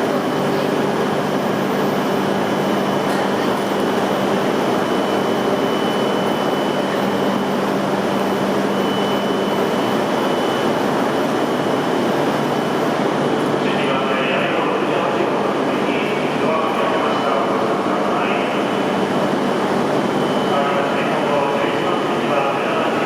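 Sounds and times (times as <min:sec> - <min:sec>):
train humming and whirring: 0:00.0 - 0:23.0.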